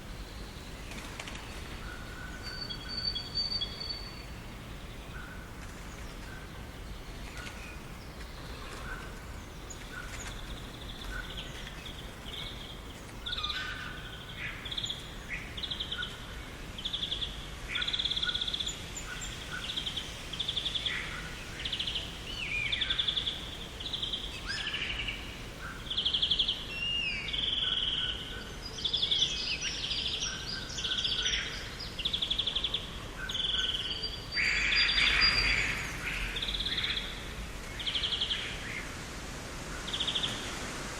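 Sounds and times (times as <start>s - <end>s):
birds singing and calling: 0.0s - 38.9s, 39.8s - 40.6s
low background hiss: 0.0s - 40.9s.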